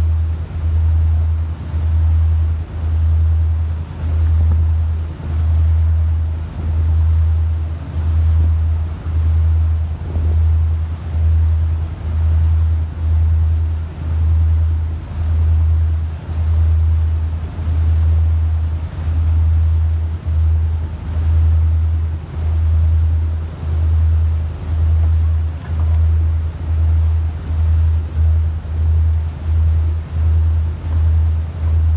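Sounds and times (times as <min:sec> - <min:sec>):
motorboat engine rumble: 0:00.0 - 0:31.9
water wash: 0:00.0 - 0:31.9
wind: 0:00.0 - 0:31.9.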